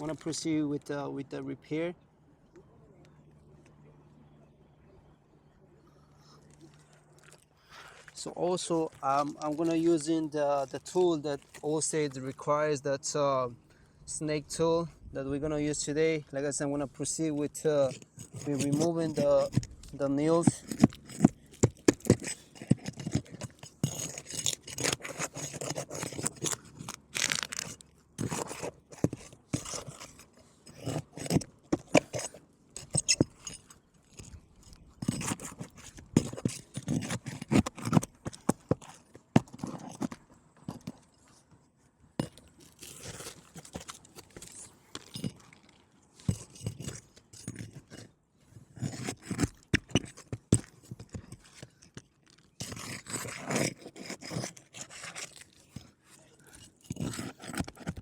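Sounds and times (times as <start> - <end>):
tool scraping under roof shingles: 6.2 - 12.5, 17.0 - 58.0.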